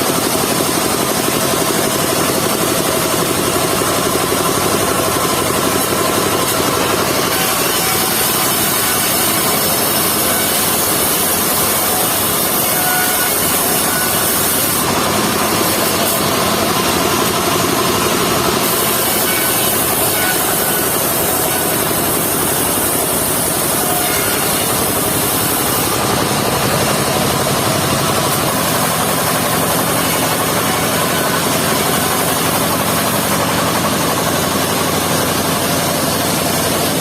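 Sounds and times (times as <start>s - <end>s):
sawmill engine and blade running: 0.0s - 37.0s.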